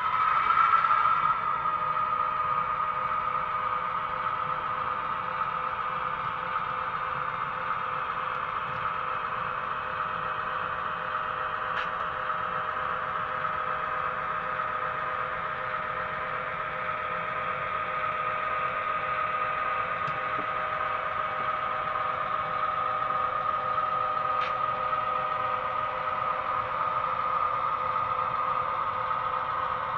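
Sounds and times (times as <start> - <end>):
diesel engine drone from speaker: 0.0 - 29.9.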